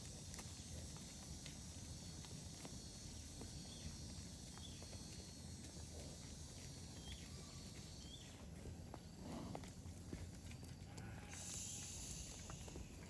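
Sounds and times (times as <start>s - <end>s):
cattle hooves clopping: 0.0s - 13.0s.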